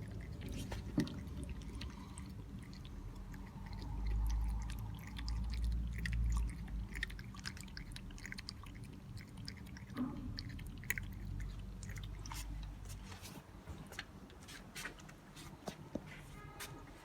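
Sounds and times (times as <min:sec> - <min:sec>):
cat chewing wet food: 0:00.0 - 0:15.8.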